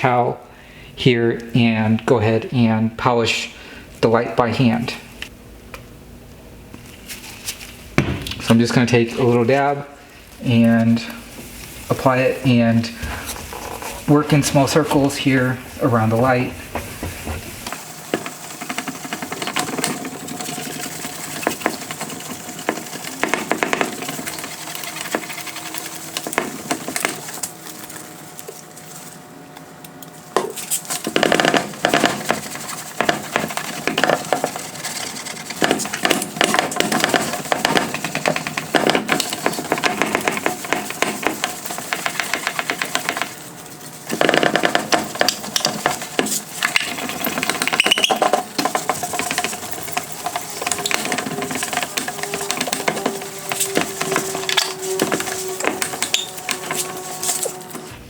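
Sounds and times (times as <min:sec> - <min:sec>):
towel scrubbing plastic lens: 0:08.5 - 0:29.2, 0:30.1 - 0:57.9.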